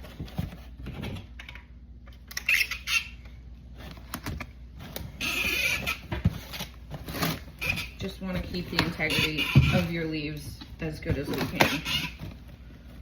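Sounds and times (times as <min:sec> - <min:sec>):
hands handling packing materials: 0:00.0 - 0:01.5, 0:02.1 - 0:13.0.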